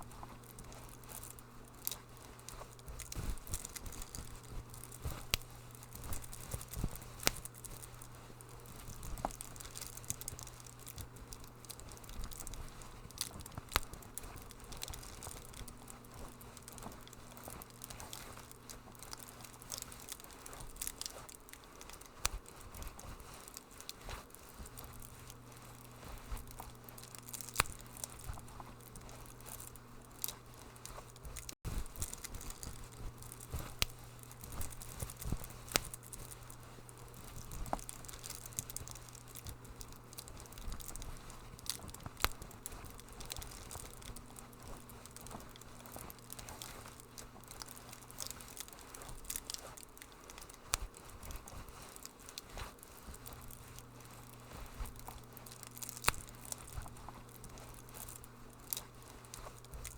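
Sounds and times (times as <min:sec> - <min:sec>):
low steady hum: 0:00.0 - 0:59.9
wood fire crackling: 0:00.0 - 0:59.9.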